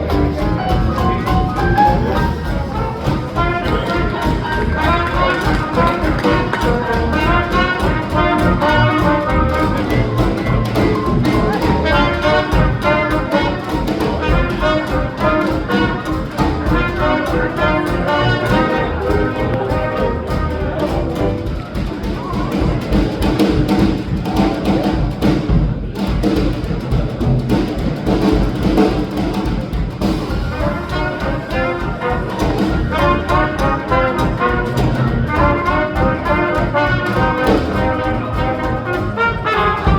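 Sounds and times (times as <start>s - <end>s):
jazz band playing swing: 0.0s - 39.9s.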